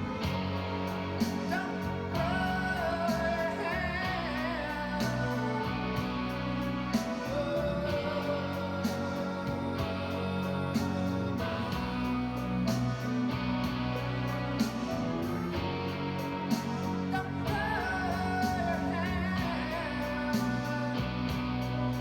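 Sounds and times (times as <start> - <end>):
person singing with vibrato: 0.0 - 22.0.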